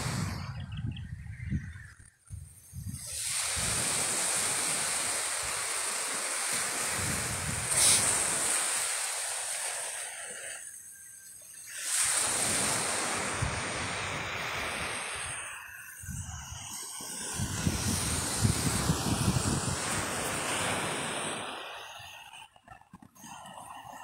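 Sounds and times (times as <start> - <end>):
surf washing onto beach: 0.0 - 0.6, 2.9 - 22.2
wind rumble on microphone: 0.0 - 5.7, 6.5 - 8.6, 12.2 - 24.0.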